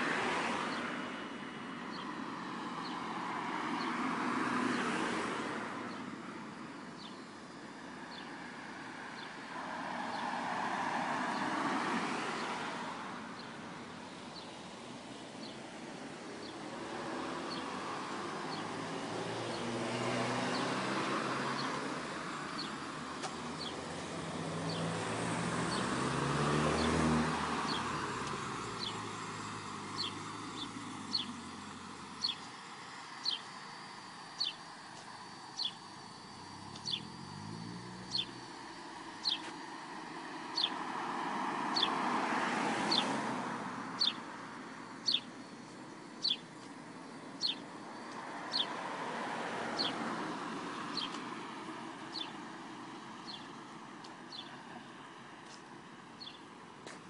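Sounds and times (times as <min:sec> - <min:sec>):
road traffic passing: 0:00.0 - 0:57.0
vehicle engine: 0:00.0 - 0:57.0.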